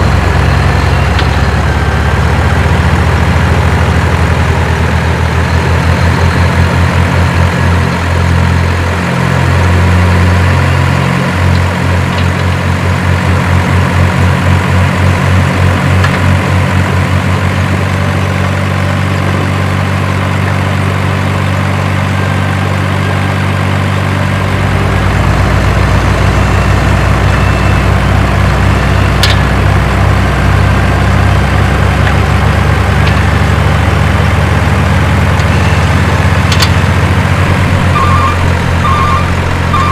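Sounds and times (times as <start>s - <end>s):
deeper rumble layer: 0.0s - 21.4s, 22.2s - 39.9s
diesel engine idling: 0.0s - 39.9s.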